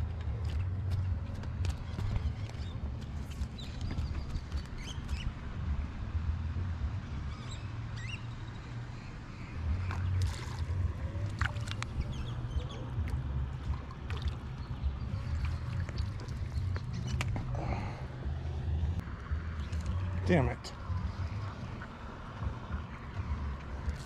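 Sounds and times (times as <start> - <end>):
water splashing and sloshing: 0.0 - 5.2, 9.3 - 24.0
constant low rumble: 0.0 - 24.0.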